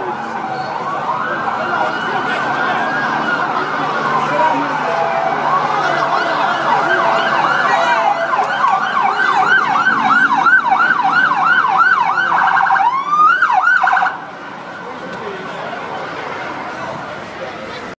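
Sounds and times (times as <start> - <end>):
police siren wailing and yelping: 0.0 - 15.0.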